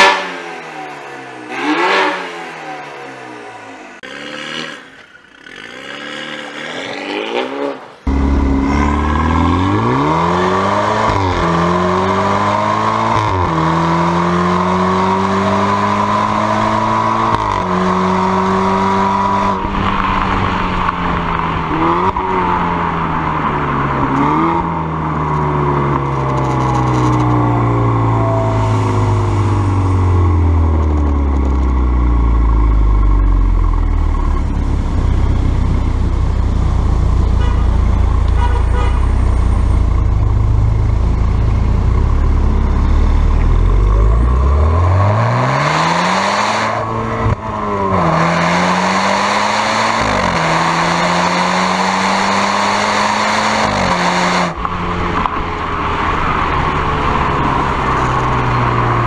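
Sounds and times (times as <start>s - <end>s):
car engine accelerating through exhaust: 0.0s - 4.9s, 5.5s - 59.0s.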